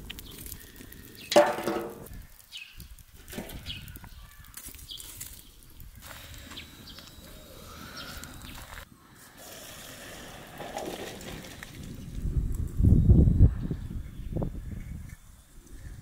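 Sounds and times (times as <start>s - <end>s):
wood fire crackling: 0.0s - 13.3s.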